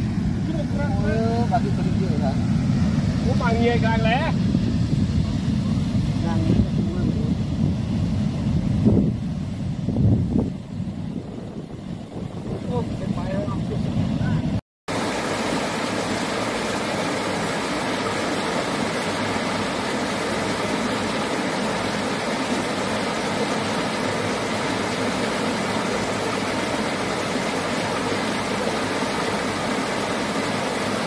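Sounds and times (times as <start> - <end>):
floodwater rushing over a weir: 0.0 - 8.8, 11.6 - 31.0.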